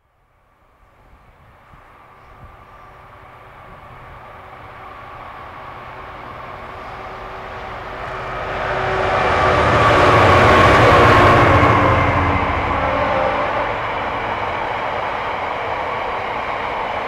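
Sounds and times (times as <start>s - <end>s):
diesel locomotive engines droning: 0.2s - 17.0s.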